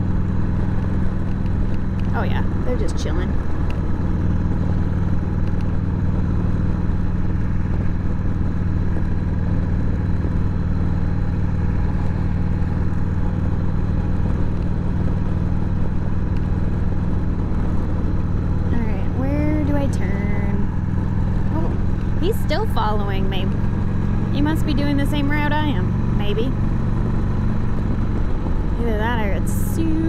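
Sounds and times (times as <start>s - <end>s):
motorcycle engine running steadily: 0.0s - 30.0s.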